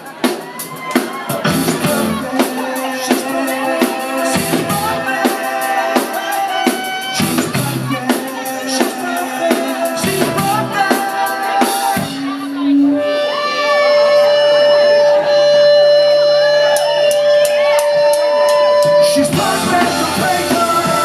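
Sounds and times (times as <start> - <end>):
drum kit beat: 0.0 - 21.0
live rock band playing: 0.0 - 21.0.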